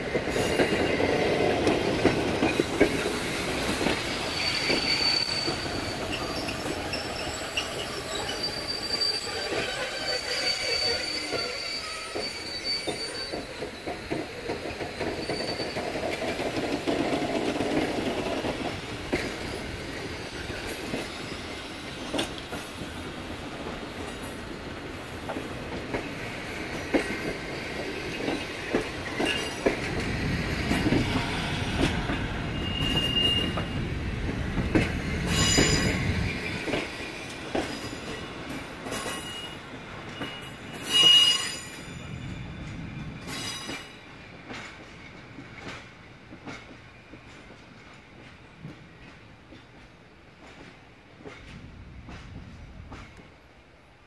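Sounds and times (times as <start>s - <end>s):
train wheels clicking over rail joints: 0.0s - 10.5s, 11.2s - 41.9s, 42.6s - 53.4s
train wheel squeals: 0.0s - 23.1s, 23.9s - 49.8s.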